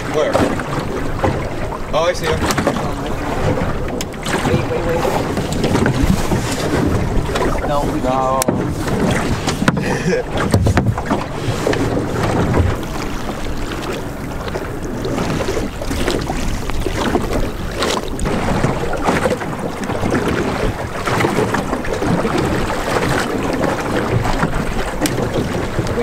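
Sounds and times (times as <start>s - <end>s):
water lapping against hull: 0.0s - 26.0s
waves slapping hull: 0.0s - 26.0s
wind buffeting microphone: 0.0s - 26.0s.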